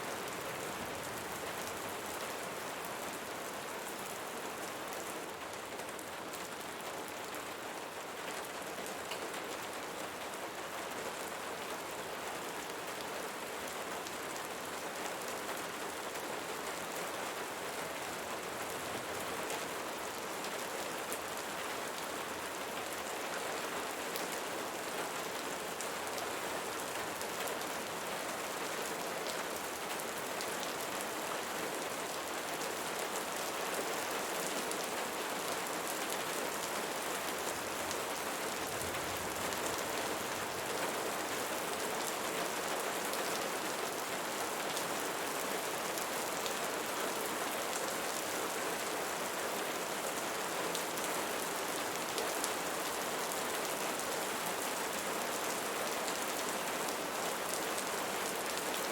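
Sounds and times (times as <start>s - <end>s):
rain pattering: 0.2s - 48.3s.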